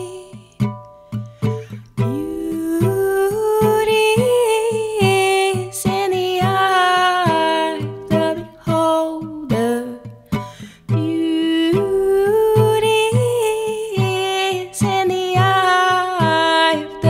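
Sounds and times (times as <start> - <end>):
plucked strings: 0.0 - 17.0.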